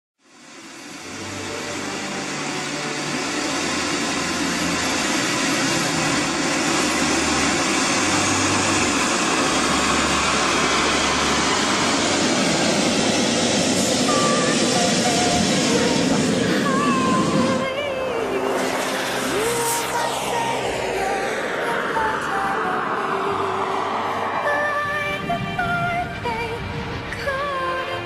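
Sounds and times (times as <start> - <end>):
model jet turbine running: 0.2 - 28.0.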